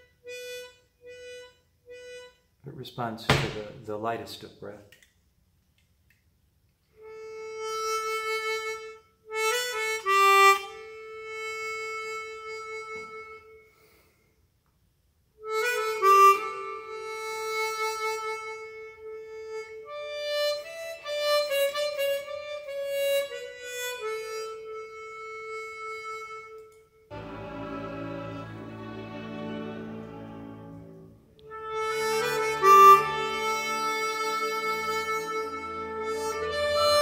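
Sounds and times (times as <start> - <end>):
chromatic harmonica playing: 0.0 - 2.7, 7.0 - 14.3, 15.4 - 37.0.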